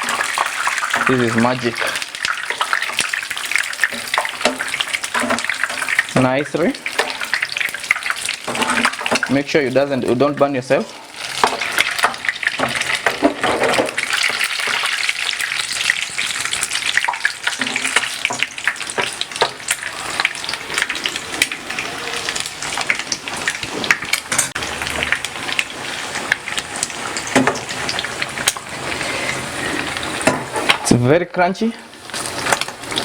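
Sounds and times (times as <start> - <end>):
fish deep-frying in oil: 0.0 - 33.0.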